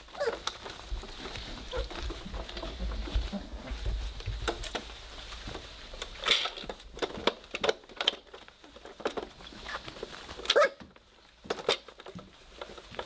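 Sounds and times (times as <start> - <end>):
puppies pawing at plastic toy: 0.0 - 13.0.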